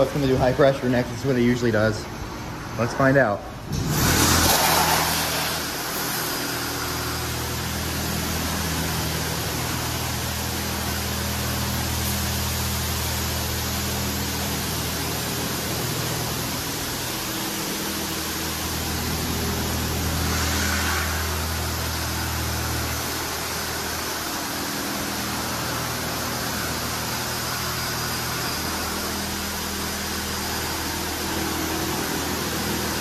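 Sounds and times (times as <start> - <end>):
low hum of wash machinery: 0.0 - 33.0
water jets hissing against car: 3.7 - 33.0.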